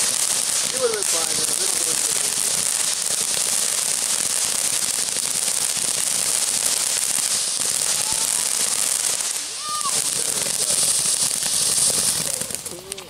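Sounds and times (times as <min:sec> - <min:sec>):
firework fountain hissing and crackling: 0:00.0 - 0:13.0.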